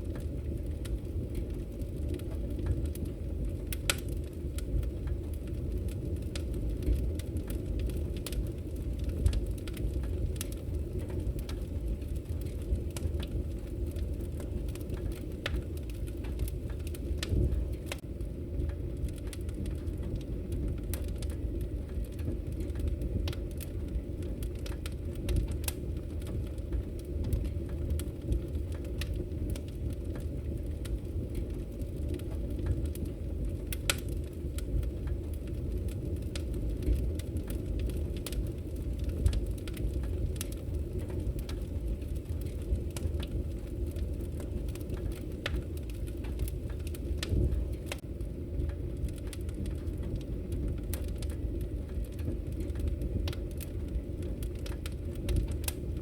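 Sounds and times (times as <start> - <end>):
fire crackles and pops: 0.0 - 56.0
low roar of flames: 0.0 - 56.0.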